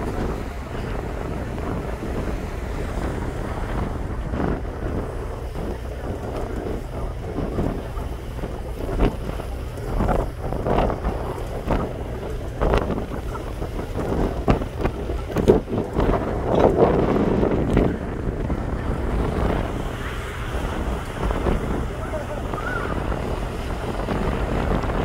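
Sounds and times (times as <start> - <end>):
low rumble of ship: 0.0 - 25.0
wind buffeting microphone: 0.0 - 25.0.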